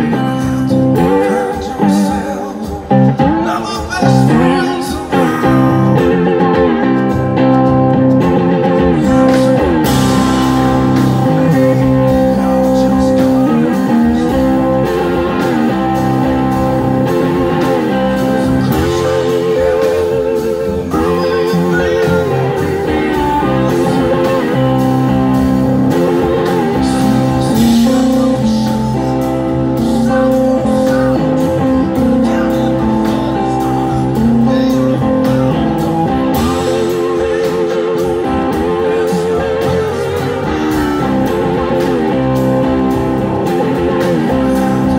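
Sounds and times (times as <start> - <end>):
live rock band playing: 0.0 - 44.9
man singing lead vocal: 0.0 - 44.9.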